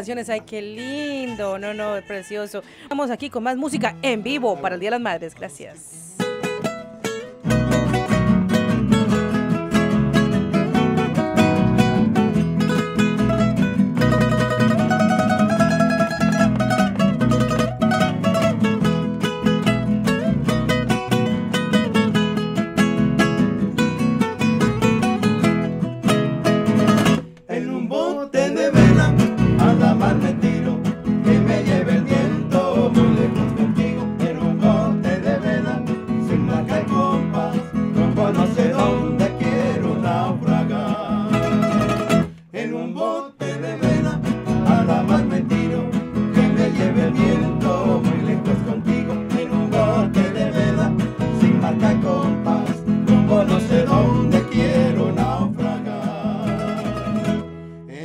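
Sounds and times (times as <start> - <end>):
acoustic guitars playing: 0.0 - 57.9.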